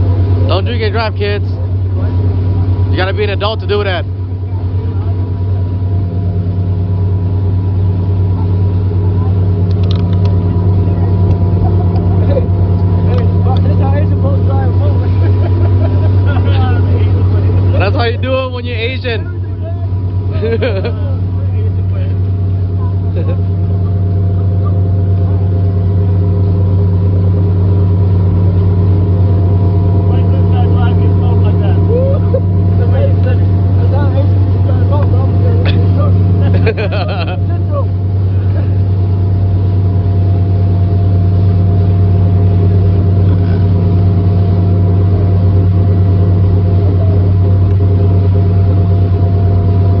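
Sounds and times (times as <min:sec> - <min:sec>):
speedboat engine droning: 0:00.0 - 0:50.0.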